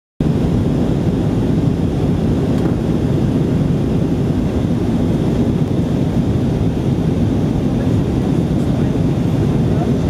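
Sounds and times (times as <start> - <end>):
airplane cabin rumble: 0.2 - 10.0.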